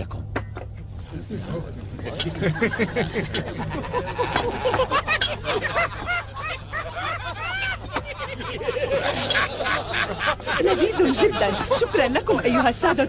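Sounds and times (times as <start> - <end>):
steady low hum: 0.0 - 13.0
people laughing: 0.9 - 13.0.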